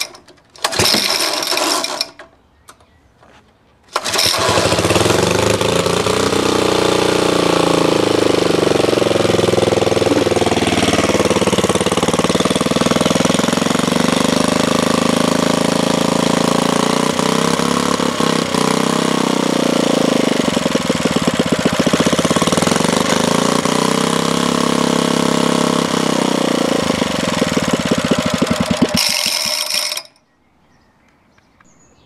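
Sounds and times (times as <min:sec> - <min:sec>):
stationary engine running: 0:04.0 - 0:30.1.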